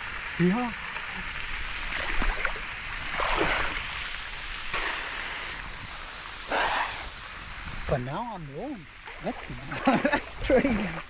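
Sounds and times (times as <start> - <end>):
rush of water: 0.0 - 11.0
water splashing and sloshing: 0.0 - 11.0.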